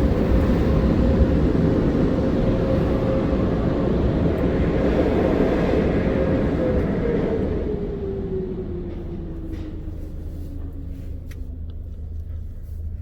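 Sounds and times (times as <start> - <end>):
dryer blowers rushing air: 0.0 - 11.7.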